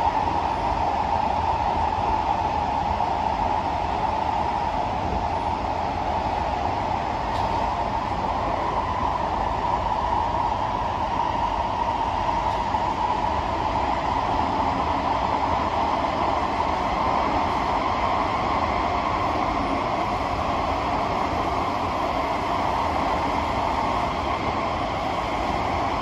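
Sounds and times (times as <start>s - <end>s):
train wheels on rail: 0.0s - 26.0s.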